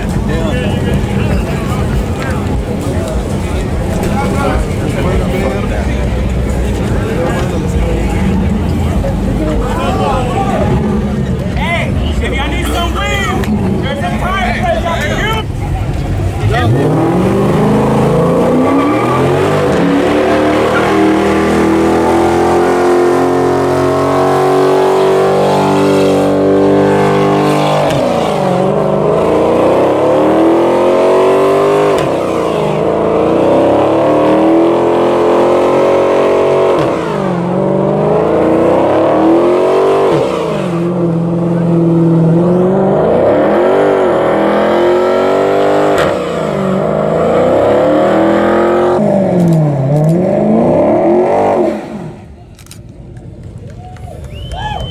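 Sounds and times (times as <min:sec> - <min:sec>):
vehicle engine revving: 0:00.0 - 0:53.2.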